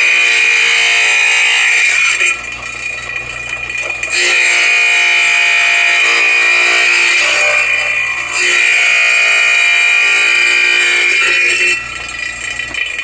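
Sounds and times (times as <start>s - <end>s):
tile saw whining: 0.0s - 13.0s.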